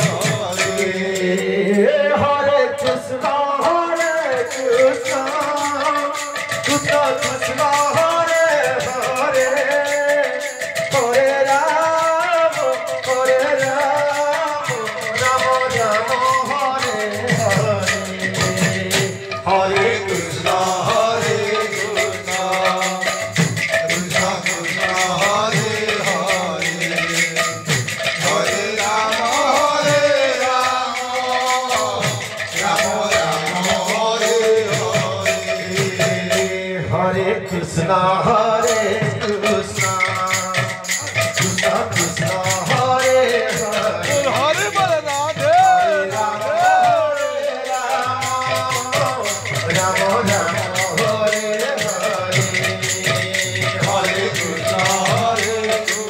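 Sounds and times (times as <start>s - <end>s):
barrel drum beat: 0.0s - 56.0s
rattling hand percussion: 0.0s - 56.0s.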